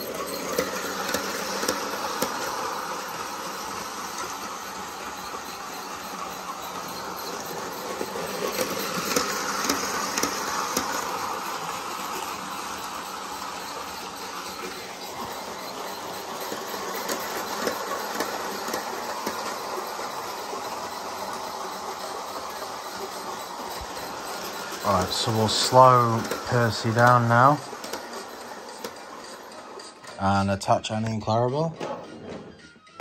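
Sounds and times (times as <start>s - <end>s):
electric motor whirring: 0.0s - 30.1s
wheels clicking over rails: 0.0s - 33.0s.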